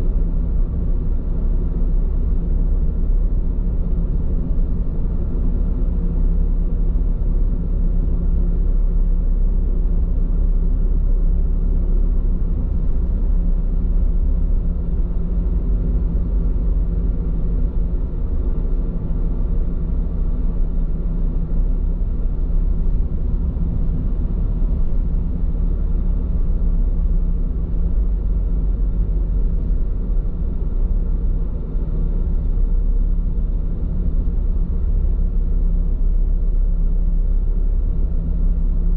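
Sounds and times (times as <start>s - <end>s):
faint steady car tones: 0.0s - 38.9s
tyre road rumble inside car: 0.0s - 38.9s.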